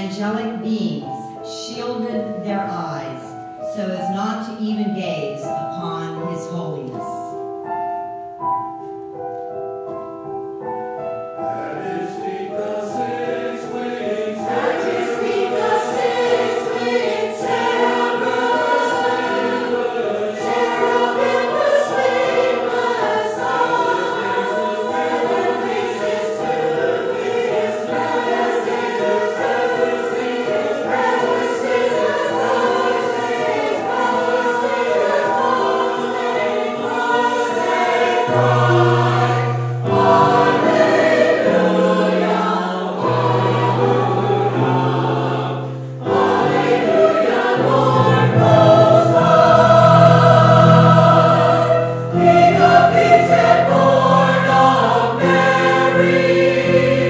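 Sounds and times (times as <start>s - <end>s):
choir singing: 10.9s - 57.0s.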